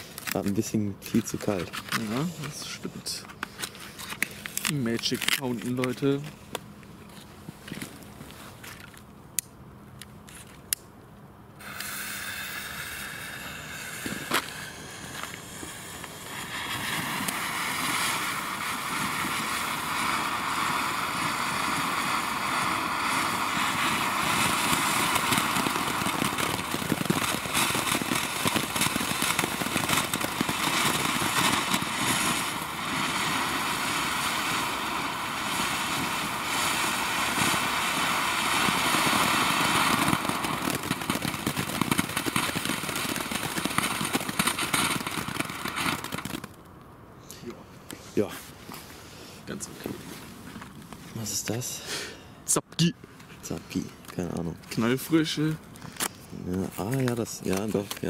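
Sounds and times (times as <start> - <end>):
firework fountain hissing sparks: 0.0 - 6.6, 11.6 - 46.7, 48.1 - 52.3, 53.3 - 58.0
firework crackling: 0.0 - 9.0, 11.5 - 46.9, 48.0 - 58.0.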